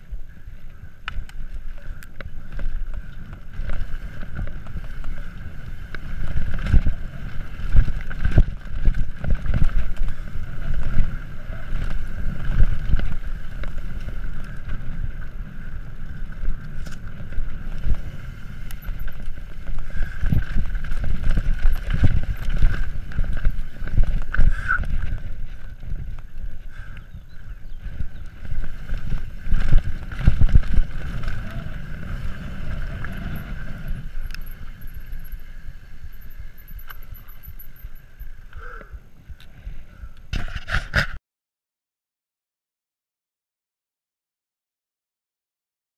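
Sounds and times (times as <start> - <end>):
wind buffeting microphone: 0.0 - 40.4
bike rumbling and rattling: 0.0 - 41.2.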